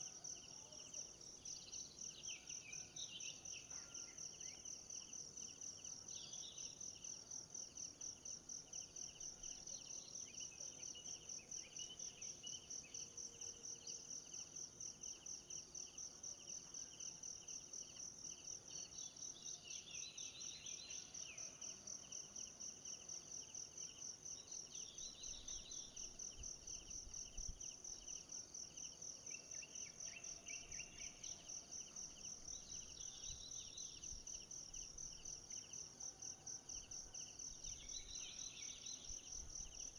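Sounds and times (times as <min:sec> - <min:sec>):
low pulsing insect trill: 0:00.0 - 0:39.9.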